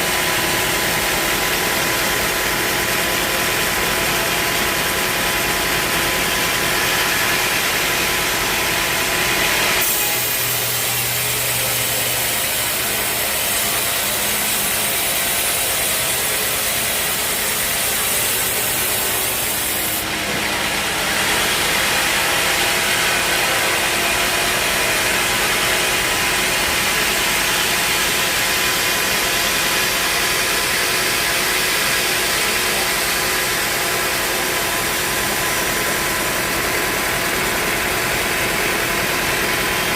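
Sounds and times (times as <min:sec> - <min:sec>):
sawmill sawing a log: 0:00.0 - 0:39.9.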